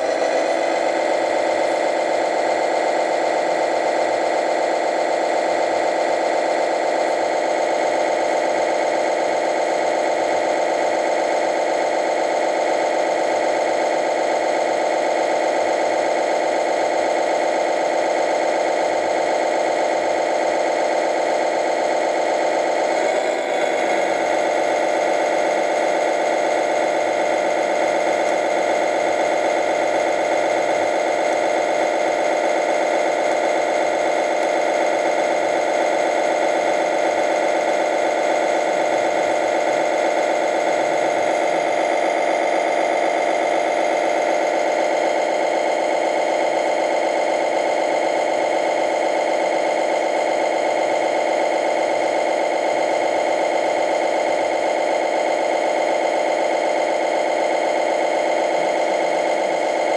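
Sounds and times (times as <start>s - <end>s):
diesel engine idling sound effect: 0.0s - 54.8s.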